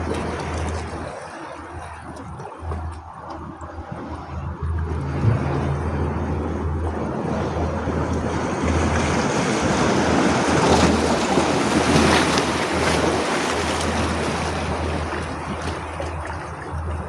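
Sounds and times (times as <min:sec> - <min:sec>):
sea waves washing: 0:00.0 - 0:17.0
wind rumbling on microphone: 0:00.0 - 0:17.0.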